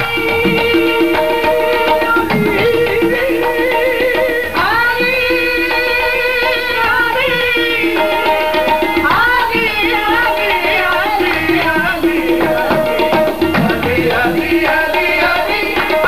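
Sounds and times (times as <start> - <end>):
harmonium: 0.0 - 16.0
tabla rhythm: 0.0 - 16.0.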